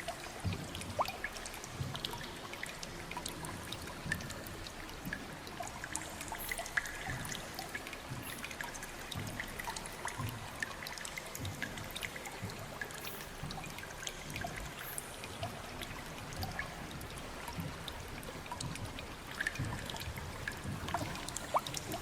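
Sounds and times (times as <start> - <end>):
low rush of water: 0.0 - 22.0
water dripping: 0.0 - 22.0.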